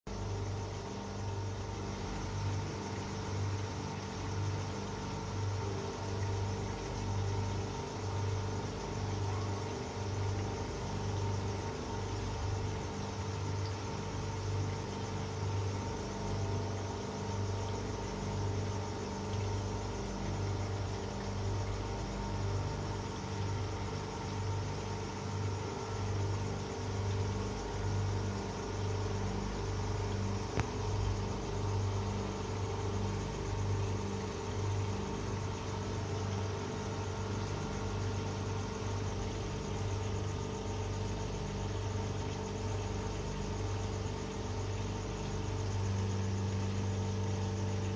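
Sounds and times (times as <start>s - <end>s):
pulsing low mechanical hum: 0.1s - 47.9s.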